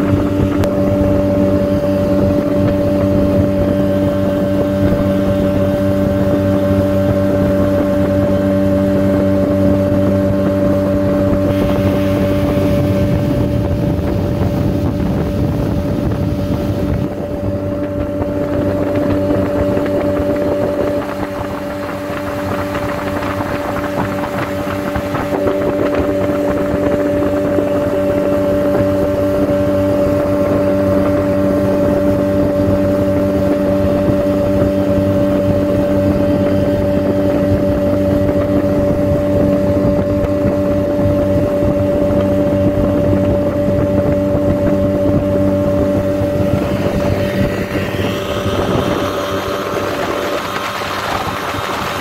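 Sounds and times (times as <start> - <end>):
motorboat engine droning: 0.0 - 52.0.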